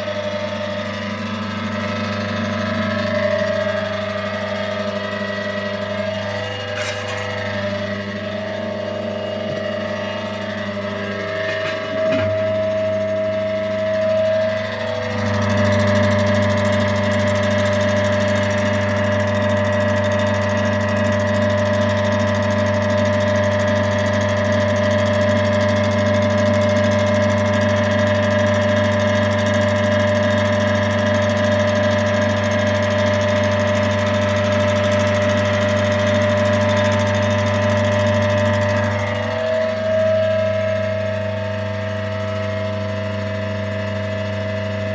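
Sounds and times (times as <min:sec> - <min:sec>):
washing machine motor humming: 0:00.0 - 0:44.9.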